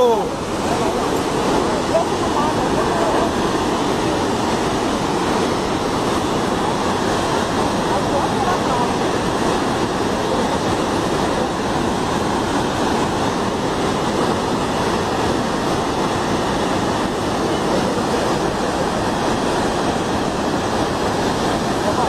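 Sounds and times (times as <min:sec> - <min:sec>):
fast-flowing water rushing: 0:00.0 - 0:22.0.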